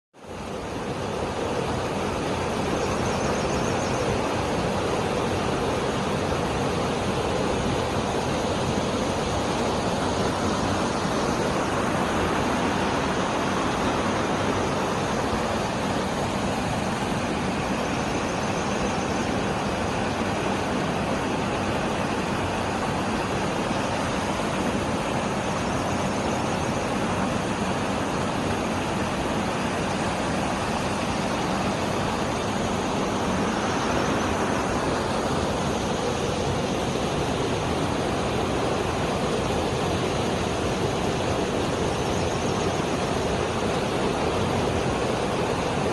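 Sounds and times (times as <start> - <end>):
waterfall rushing: 0.2 - 45.9.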